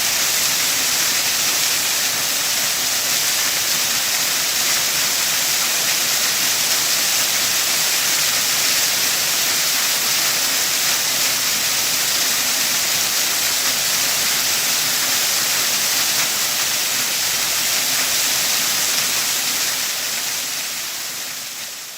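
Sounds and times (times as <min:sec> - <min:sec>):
waterfall rushing: 0:00.0 - 0:21.1.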